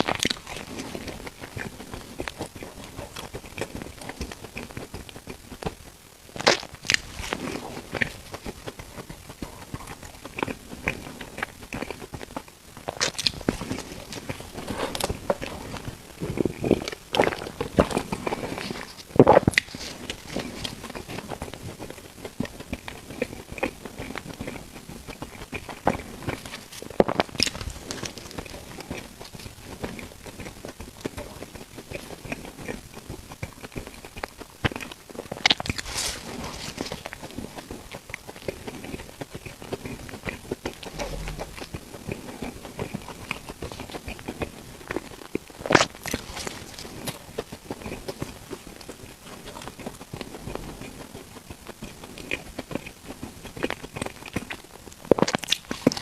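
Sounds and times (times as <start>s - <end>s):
chewing food: 0.0s - 56.0s
crunchy snaps: 0.0s - 56.0s.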